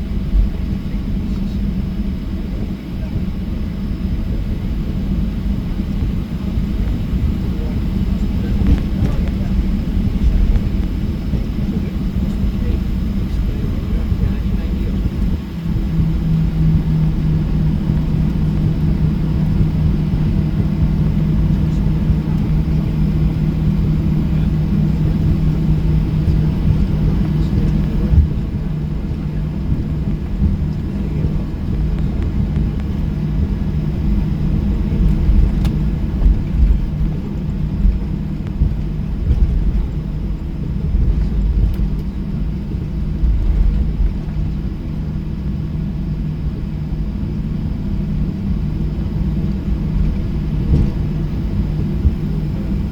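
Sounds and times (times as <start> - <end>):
airplane cabin engine hum: 0.0 - 52.9.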